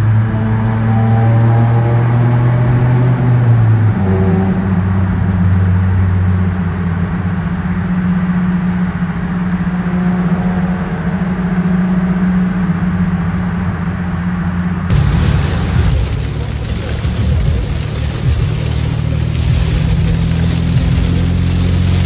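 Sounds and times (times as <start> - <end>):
car engine droning in cabin: 0.0 - 22.0.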